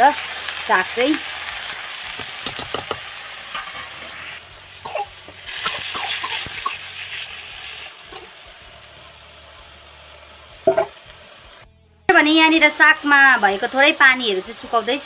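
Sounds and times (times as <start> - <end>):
loud hissing sizzle: 0.0 - 15.0
vegetables sizzling in wok: 0.0 - 15.0.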